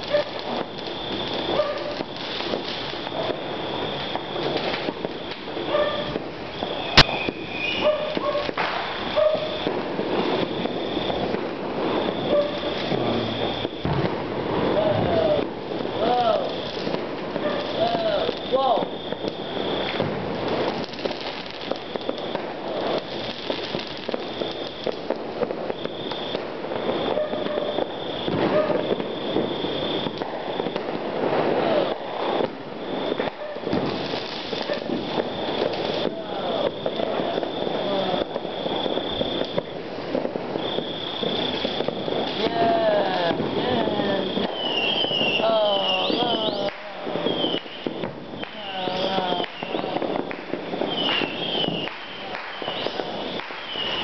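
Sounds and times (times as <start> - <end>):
distant fireworks popping and crackling: 0.0 - 54.0
firework bang: 0.0 - 54.0.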